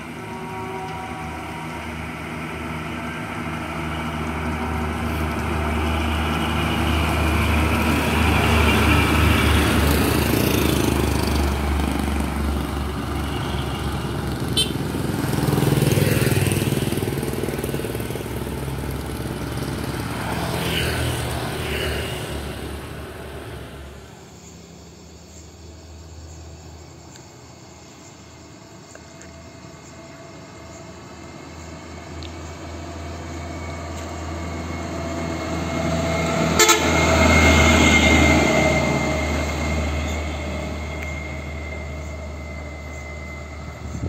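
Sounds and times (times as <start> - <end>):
dump truck engine drone passing: 0.0 - 44.0
motorcycle passing: 1.1 - 24.3, 31.0 - 44.0.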